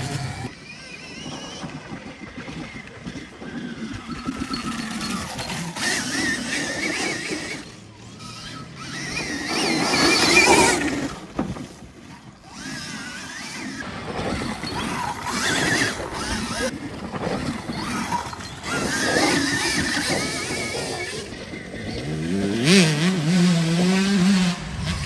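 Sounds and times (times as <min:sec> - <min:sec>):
electric motorbike motor whining: 0:00.0 - 0:25.0.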